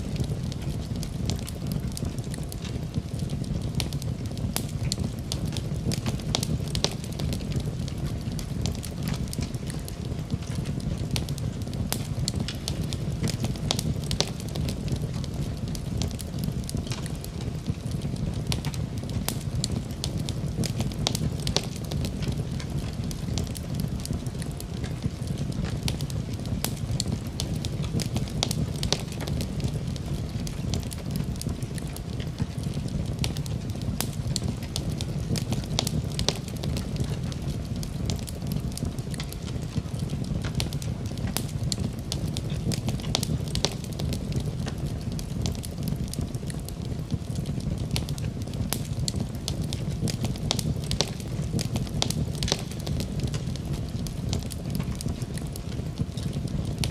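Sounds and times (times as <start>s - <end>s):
fire crackling and popping: 0.0s - 56.9s
fire flames rumbling: 0.0s - 56.9s.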